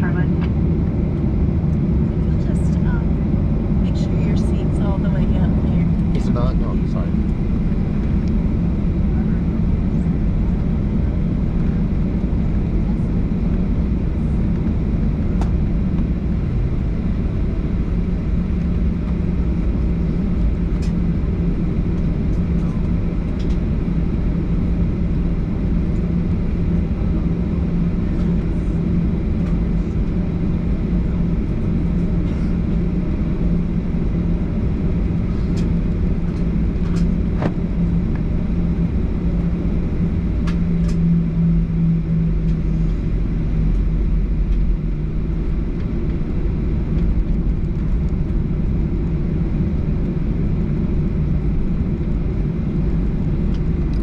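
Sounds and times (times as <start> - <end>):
airplane cabin rumble: 0.0 - 54.0
constant low hum: 0.0 - 54.0.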